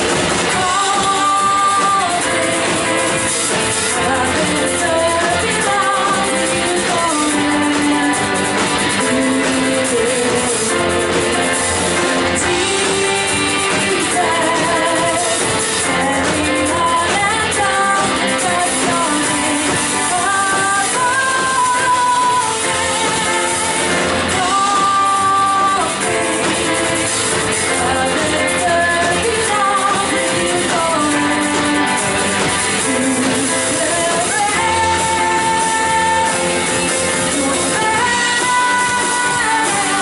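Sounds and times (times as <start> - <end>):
worship band playing: 0.0 - 40.0.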